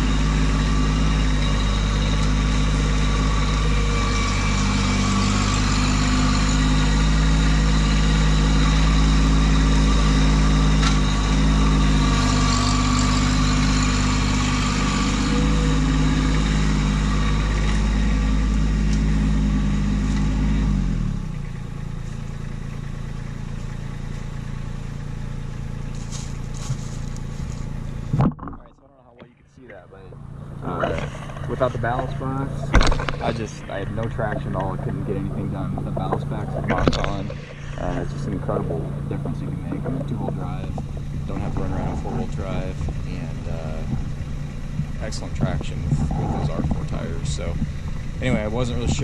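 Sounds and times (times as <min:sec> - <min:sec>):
diesel tractor engine running: 0:00.0 - 0:49.0.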